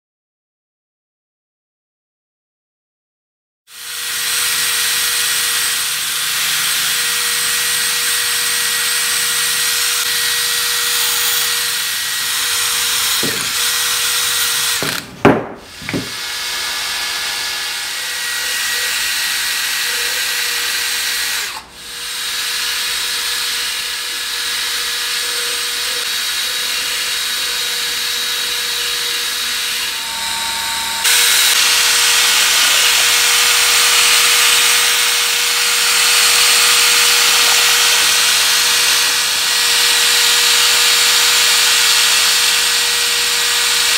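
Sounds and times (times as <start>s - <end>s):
cordless drill running: 3.7s - 43.9s.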